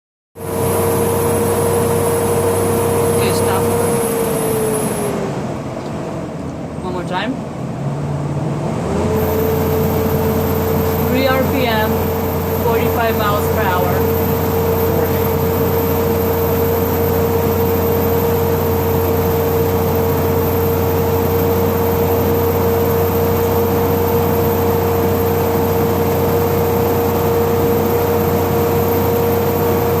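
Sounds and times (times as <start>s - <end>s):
road and engine noise: 0.4s - 30.0s.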